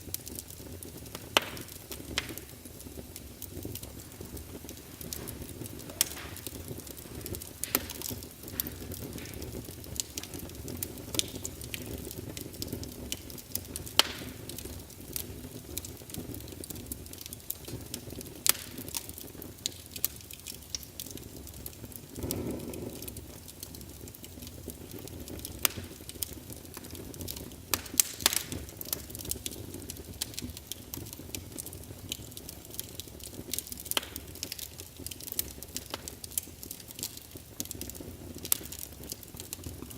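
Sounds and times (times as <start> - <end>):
flames hissing: 0.0 - 39.9
logs crackling and popping: 0.0 - 39.9.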